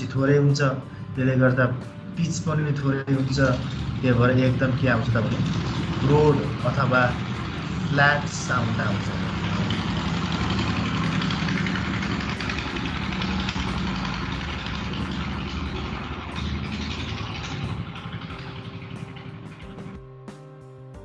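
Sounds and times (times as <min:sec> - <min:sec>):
vehicle engine rumbling: 0:00.8 - 0:20.0.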